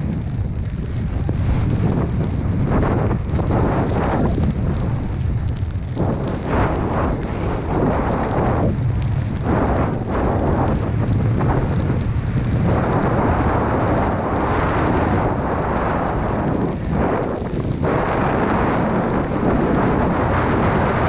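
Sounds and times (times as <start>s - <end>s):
wind buffeting microphone: 0.0s - 21.0s
snowboard carving through powder: 0.8s - 21.0s.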